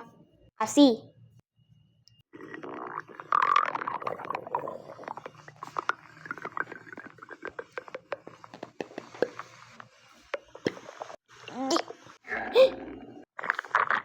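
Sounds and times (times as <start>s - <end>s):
stomach growling and gurgling: 2.2s - 14.0s.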